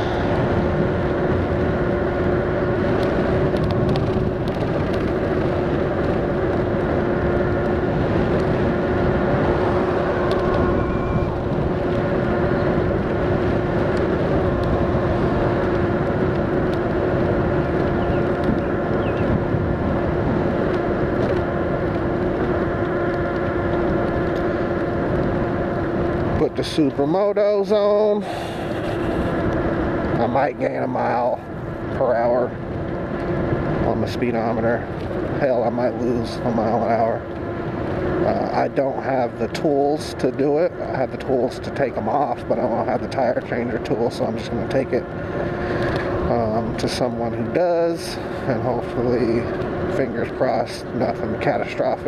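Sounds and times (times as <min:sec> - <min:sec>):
wind rushing on microphone: 0:00.0 - 0:40.0, 0:40.6 - 0:52.0
electric motorbike hum: 0:00.0 - 0:52.0.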